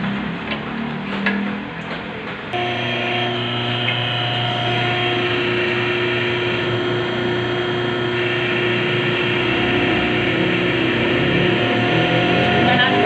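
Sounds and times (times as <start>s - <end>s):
hydraulic pump humming and whining: 2.4s - 13.0s.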